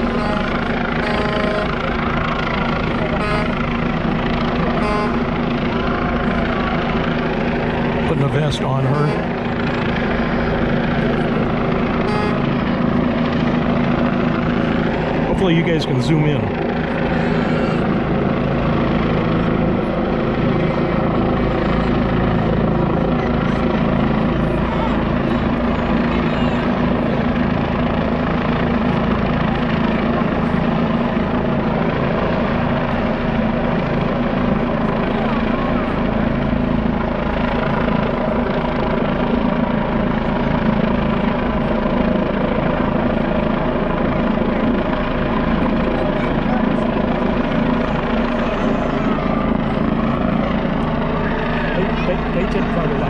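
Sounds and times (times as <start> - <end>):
helicopter hovering: 0.0 - 53.0.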